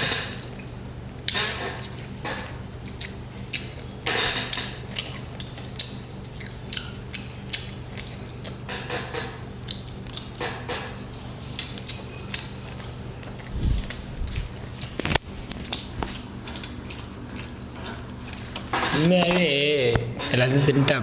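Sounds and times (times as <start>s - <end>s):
person chewing and tearing meat: 0.0s - 18.7s
steady low hum: 0.0s - 21.0s.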